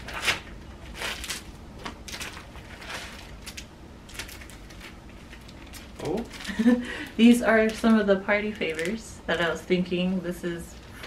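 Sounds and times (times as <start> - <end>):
plastic packaging crinkling and tearing: 0.0 - 9.0.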